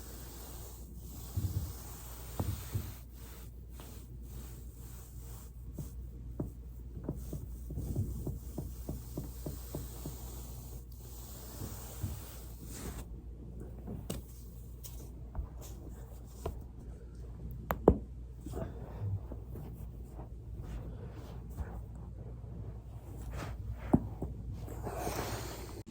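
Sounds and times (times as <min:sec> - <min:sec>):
body rolling on foam roller: 0:00.0 - 0:25.9.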